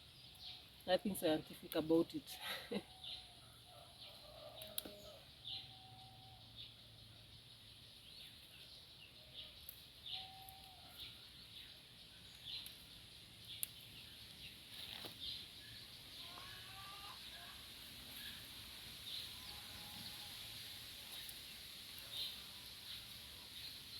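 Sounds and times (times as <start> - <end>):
small birds chirping: 0.0 - 23.9
high insect hiss: 4.2 - 23.9.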